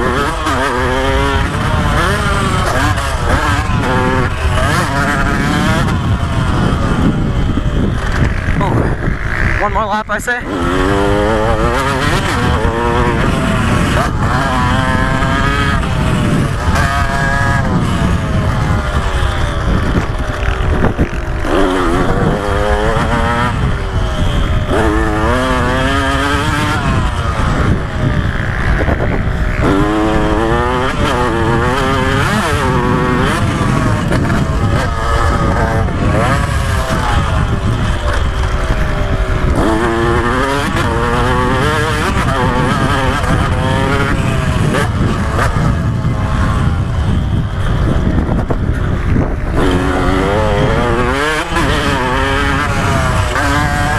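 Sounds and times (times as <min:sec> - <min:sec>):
motocross engine revving: 0:00.0 - 0:53.9
wind on microphone: 0:00.0 - 0:53.9.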